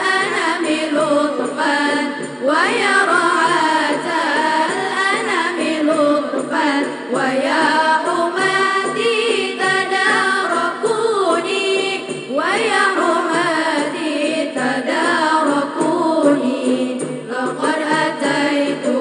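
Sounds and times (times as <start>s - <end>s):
girls singing in a group: 0.0s - 19.0s.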